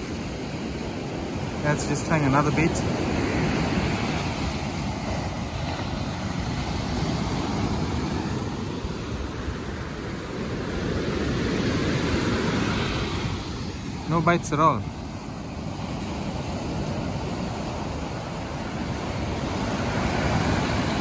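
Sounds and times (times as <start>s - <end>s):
surf washing up a beach: 0.0s - 21.0s
wind rumble on microphone: 0.0s - 21.0s.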